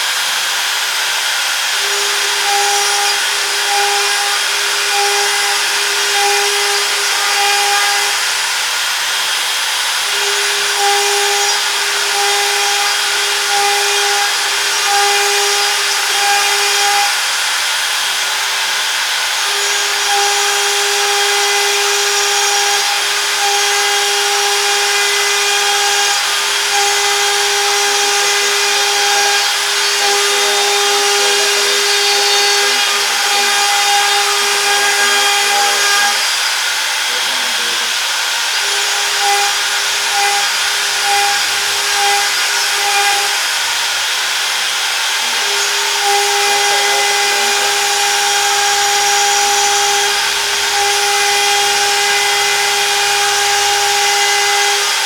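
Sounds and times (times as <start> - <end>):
router spindle whining: 0.0 - 55.0.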